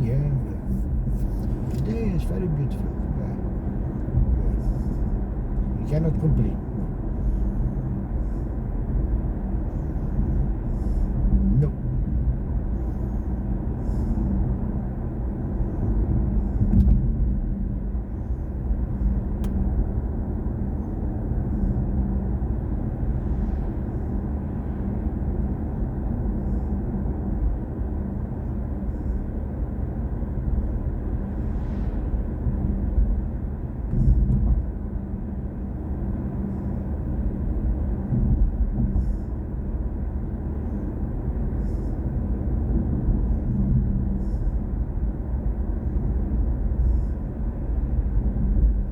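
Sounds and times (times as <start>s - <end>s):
road and tyre rumble: 0.0s - 48.9s.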